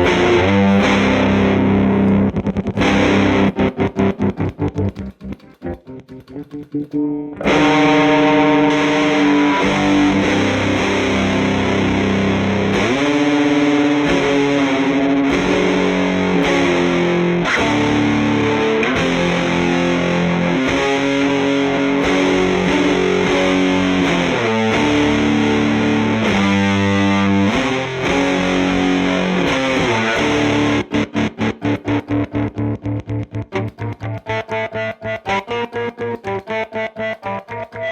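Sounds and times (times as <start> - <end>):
distorted electric guitar chords: 0.0 - 37.9.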